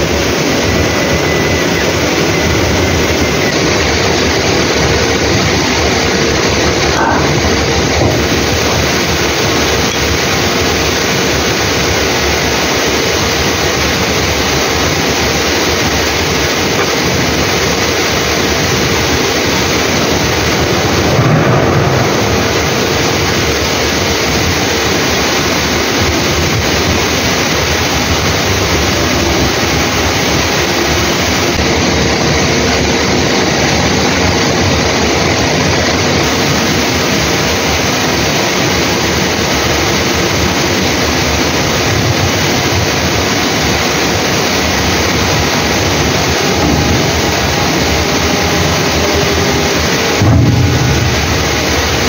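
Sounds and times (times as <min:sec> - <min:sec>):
ship machinery hum: 0:00.0 - 0:52.0.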